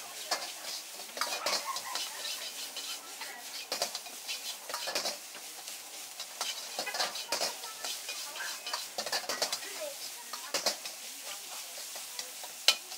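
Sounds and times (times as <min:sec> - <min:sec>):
frying sizzle: 0:00.0 - 0:12.9
metal ladle scraping wok: 0:00.0 - 0:12.9.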